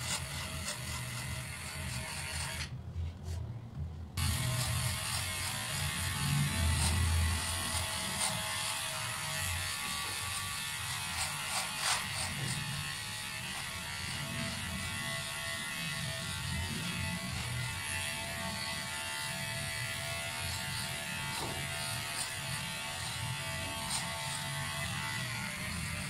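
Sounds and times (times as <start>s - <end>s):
hair clipper buzzing: 0.0s - 2.7s, 4.2s - 26.0s.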